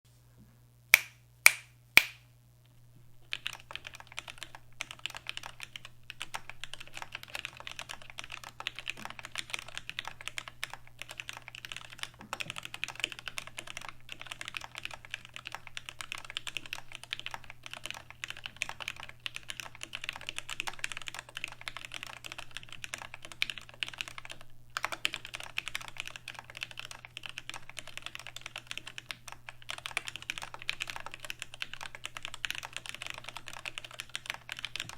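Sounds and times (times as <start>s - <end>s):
typing on mechanical keyboard: 3.3s - 34.9s.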